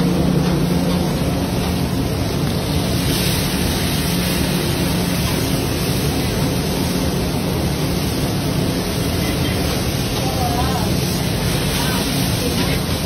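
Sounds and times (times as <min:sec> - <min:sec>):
fish sizzling in hot oil: 0:00.1 - 0:13.0.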